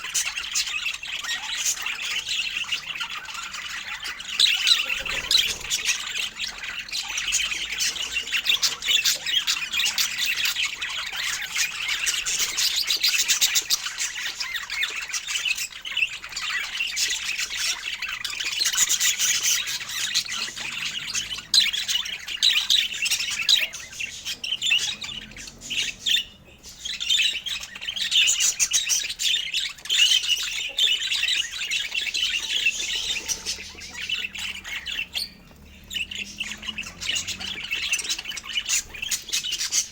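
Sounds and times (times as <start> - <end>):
budgerigar chirping: 0.0 - 39.9.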